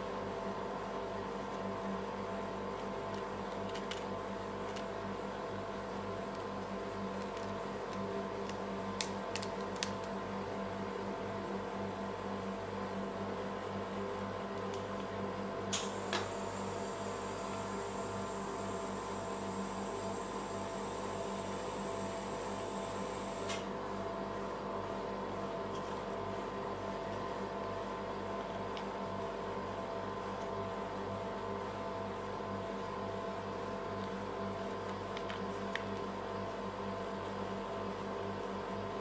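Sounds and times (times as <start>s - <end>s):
refrigeration unit humming: 0.0s - 39.0s.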